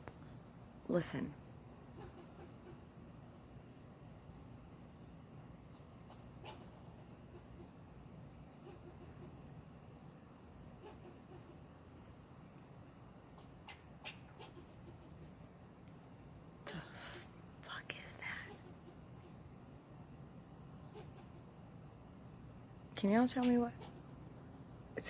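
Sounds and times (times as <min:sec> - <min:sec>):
insects droning in trees: 0:00.0 - 0:25.0.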